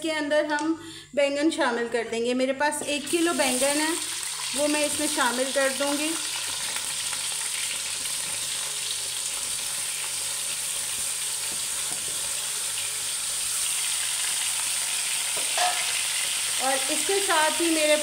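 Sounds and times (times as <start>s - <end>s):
oil sizzling in a pan: 3.0s - 18.0s.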